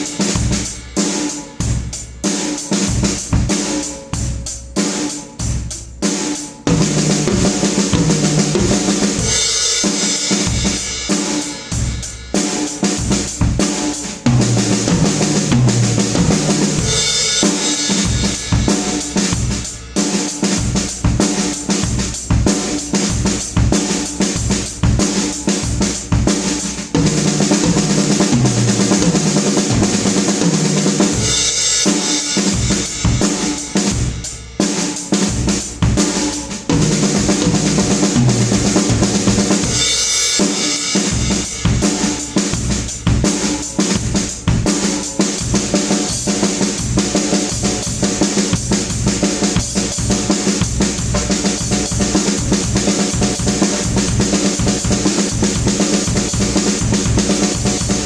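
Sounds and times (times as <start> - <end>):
kick and snare drum groove: 0.0 - 58.0.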